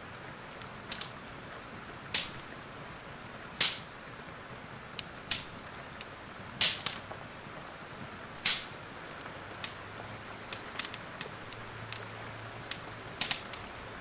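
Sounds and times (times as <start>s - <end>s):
rain hiss: 0.0s - 14.0s
wood fire crackling and popping: 0.2s - 4.2s, 4.8s - 14.0s.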